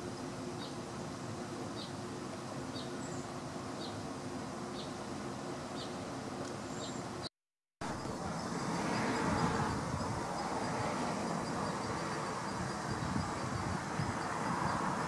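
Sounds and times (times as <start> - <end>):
background noise with low hum: 0.0 - 15.0.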